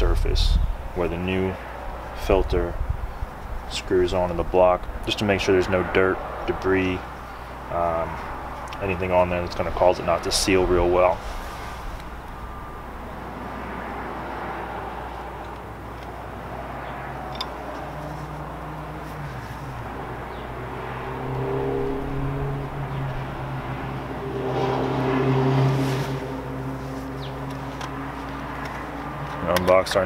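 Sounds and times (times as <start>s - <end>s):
low outdoor hum: 0.0s - 30.0s
vehicle engine droning: 0.0s - 30.0s.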